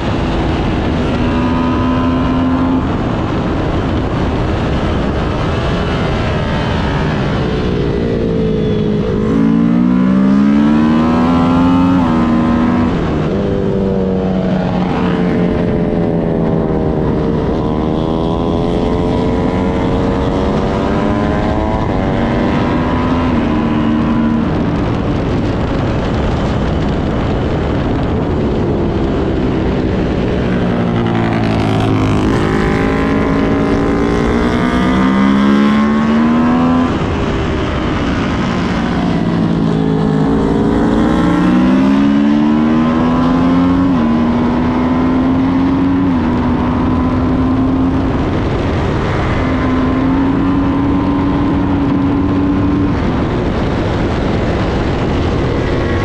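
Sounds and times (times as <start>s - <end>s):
wind rush: 0.0s - 56.0s
sport bike engine revving: 5.4s - 25.1s, 29.6s - 56.0s.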